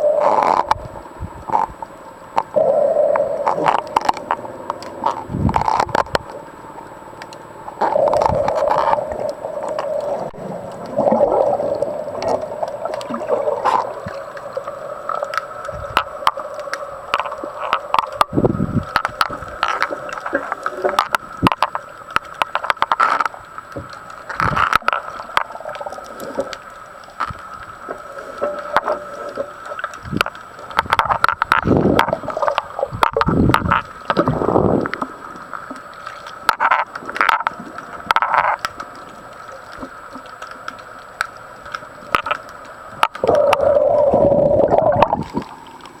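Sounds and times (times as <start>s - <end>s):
gurgling water surges: 0.0s - 46.0s.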